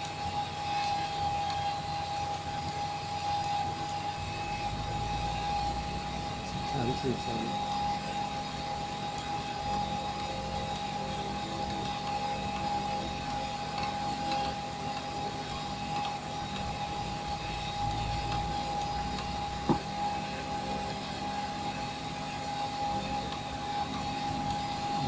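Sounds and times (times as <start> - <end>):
cockpit machine hum with high whine: 0.0 - 25.0.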